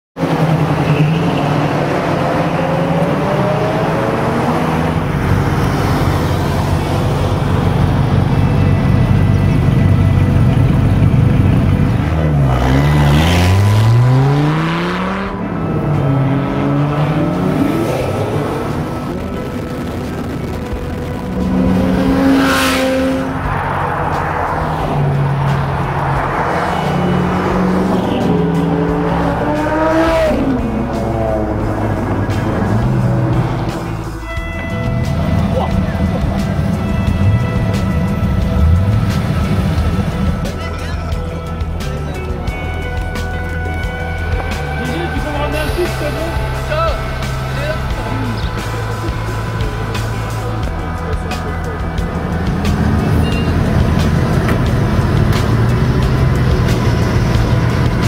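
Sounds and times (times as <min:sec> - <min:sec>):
engine note rising in pitch: 0:00.2 - 0:42.9, 0:43.6 - 0:58.0
deep engine rumble: 0:00.2 - 0:58.0
road traffic noise: 0:00.2 - 0:58.0
sports cars driving past: 0:00.2 - 0:58.0
background music: 0:00.4 - 0:58.0.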